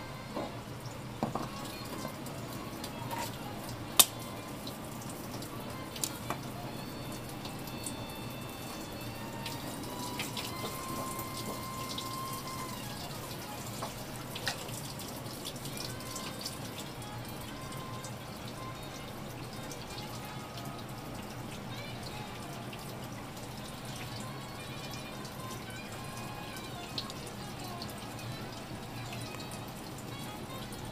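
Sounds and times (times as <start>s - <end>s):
tap water running into sink: 0.3s - 30.9s
water dripping: 0.4s - 30.9s.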